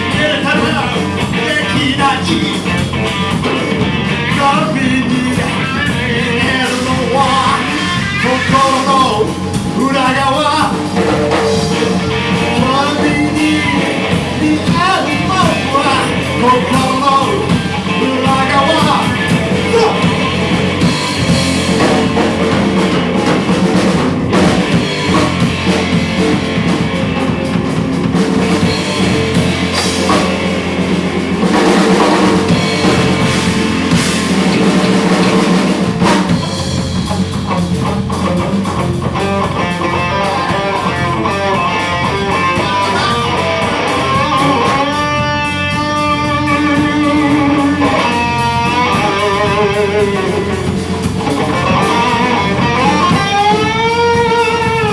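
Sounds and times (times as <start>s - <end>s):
electric guitar lead: 0.0s - 54.9s
rock band playing: 0.0s - 54.9s.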